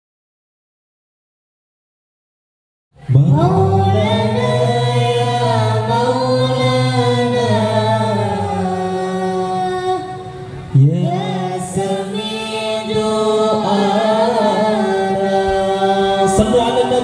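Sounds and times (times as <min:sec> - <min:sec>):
group singing in unison: 0:03.0 - 0:17.0.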